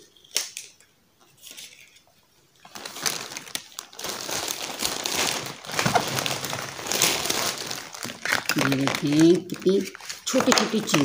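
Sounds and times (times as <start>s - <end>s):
plastic packaging crinkling: 0.1s - 11.0s.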